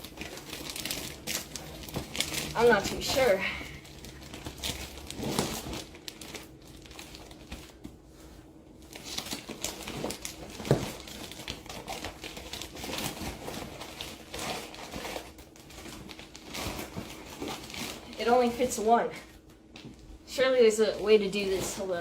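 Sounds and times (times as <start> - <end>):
plastic bag crinkling: 0.0 - 7.8, 8.8 - 19.5.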